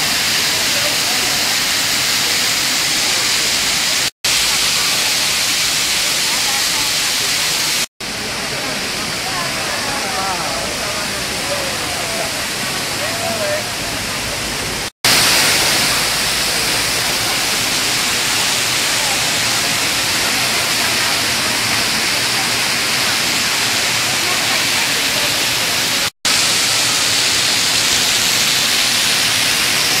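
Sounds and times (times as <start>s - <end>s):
water fountain splashing: 0.0s - 30.0s.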